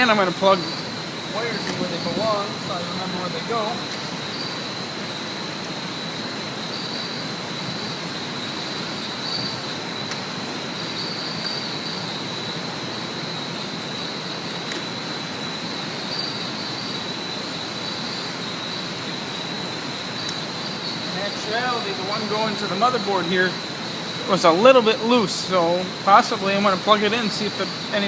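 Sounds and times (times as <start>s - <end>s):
background hiss: 0.0s - 28.0s
high-pitched whine: 0.0s - 28.0s.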